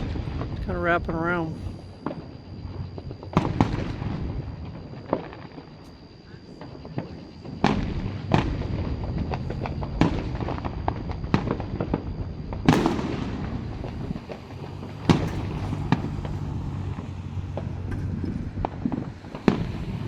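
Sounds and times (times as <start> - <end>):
fireworks bursting: 0.0 - 20.0
fireworks crackling: 0.0 - 20.0.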